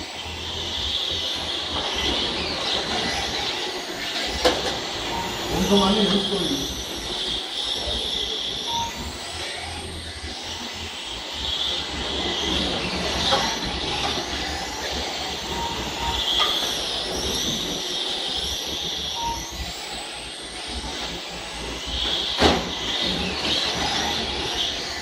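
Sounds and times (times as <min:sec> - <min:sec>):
model truck electric motors whining: 0:00.0 - 0:25.0.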